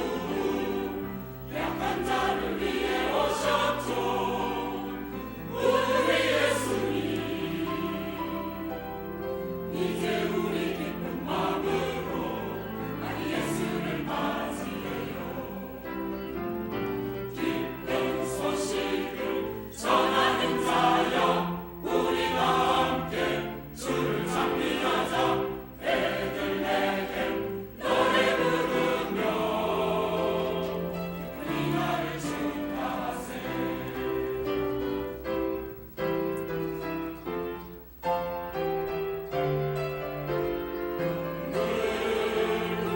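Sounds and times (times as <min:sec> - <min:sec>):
church choir singing a hymn: 0:00.0 - 0:38.0, 0:38.8 - 0:42.9
musical accompaniment: 0:00.0 - 0:42.9.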